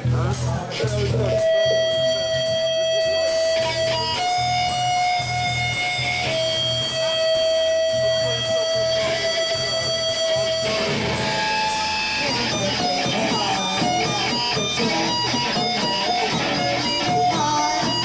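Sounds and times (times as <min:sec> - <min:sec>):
electric guitar lead notes: 0:00.0 - 0:18.0
pulsing bass line: 0:00.0 - 0:18.0.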